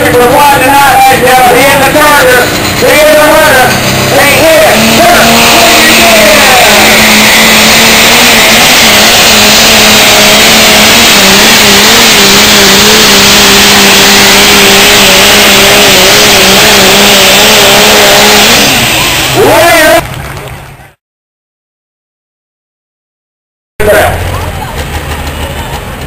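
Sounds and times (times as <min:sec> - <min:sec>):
diesel tractor engine roaring: 0:00.0 - 0:21.0, 0:23.8 - 0:26.0.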